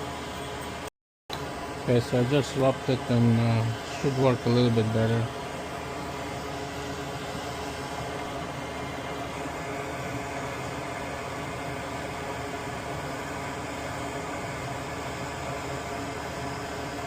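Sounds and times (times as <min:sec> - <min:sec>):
small fan whirring: 0:00.0 - 0:17.0.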